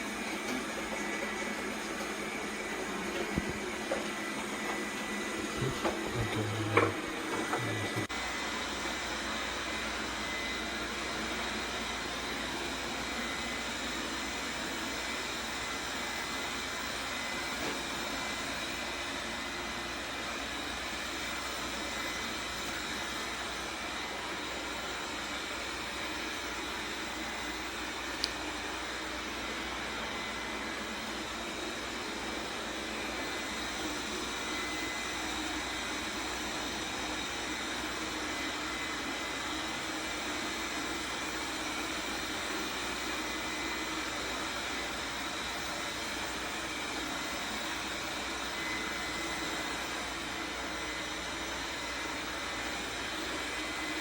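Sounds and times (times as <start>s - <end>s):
robot vacuum whirring: 0.0s - 54.0s.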